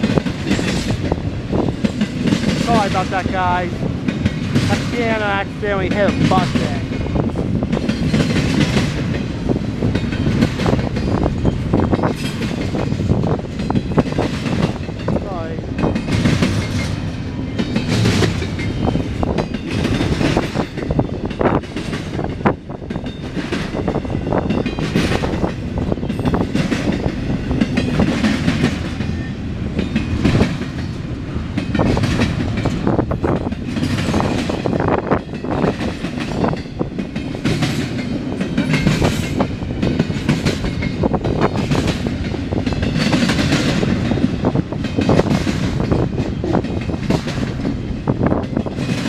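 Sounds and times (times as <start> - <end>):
freight train cars rolling: 0.0 - 49.0
wheels clacking on rail joints: 0.0 - 49.0.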